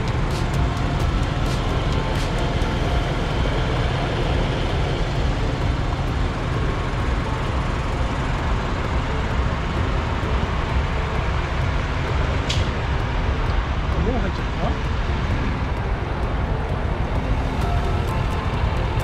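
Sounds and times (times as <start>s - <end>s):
idling trucks rumbling: 0.0s - 19.0s.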